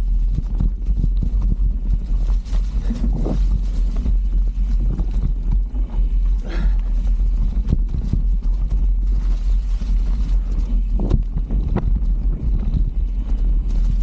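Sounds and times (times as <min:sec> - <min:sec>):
wind and ground rumble: 0:00.0 - 0:14.0.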